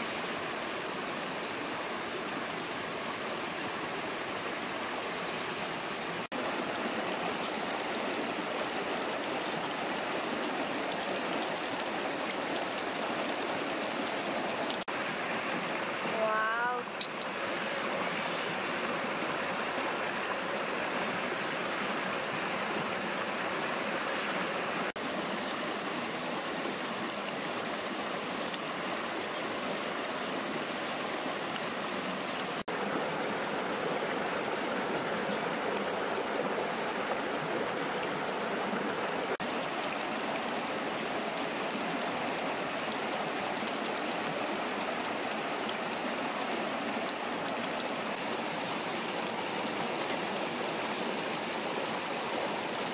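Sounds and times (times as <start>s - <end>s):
stream rushing over stones: 0.0s - 52.9s.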